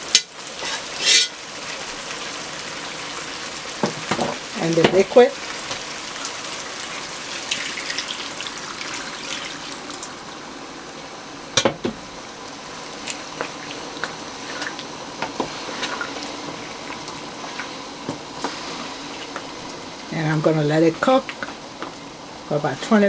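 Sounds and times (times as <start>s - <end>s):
pot hissing and bubbling: 0.0s - 23.0s.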